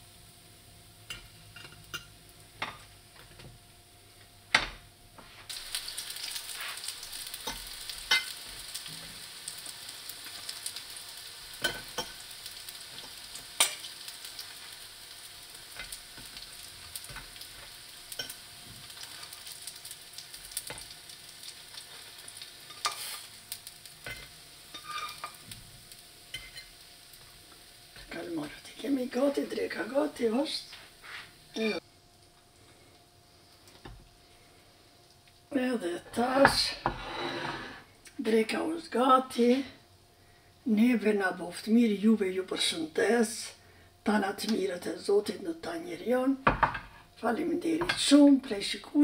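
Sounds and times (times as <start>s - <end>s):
food sizzling in hot oil: 0.0s - 39.8s, 40.6s - 49.0s.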